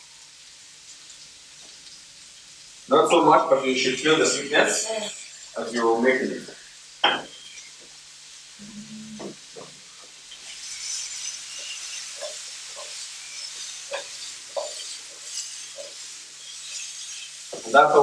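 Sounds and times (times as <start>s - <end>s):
carrots sizzling in frying pan: 0.0s - 8.6s, 9.2s - 18.0s.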